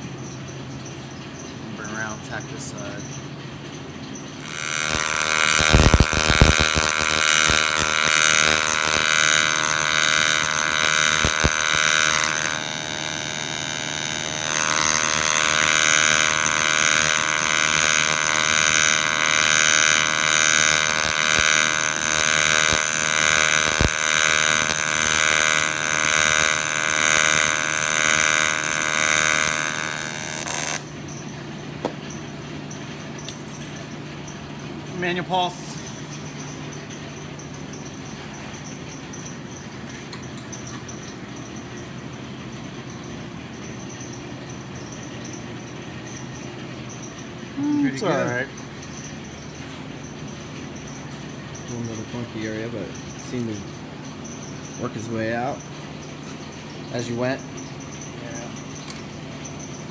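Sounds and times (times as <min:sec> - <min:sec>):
welding arc buzzing: 0:04.4 - 0:52.5.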